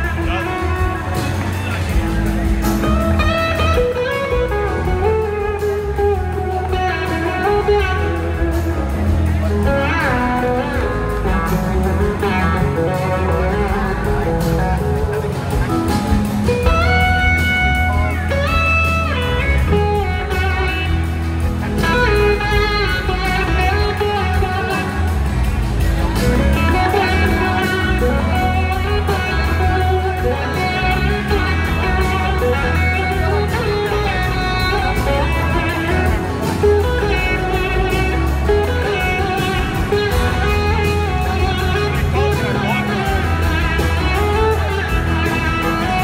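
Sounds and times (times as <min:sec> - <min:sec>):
electric slide guitar: 0:00.0 - 0:46.0
live band playing: 0:00.0 - 0:46.0.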